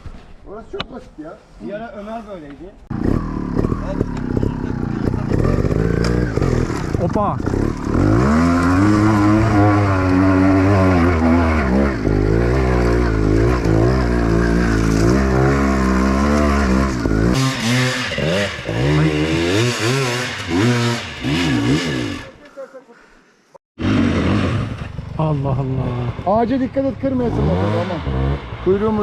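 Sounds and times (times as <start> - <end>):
dirt bike engine revving: 2.9 - 22.4, 23.8 - 29.0.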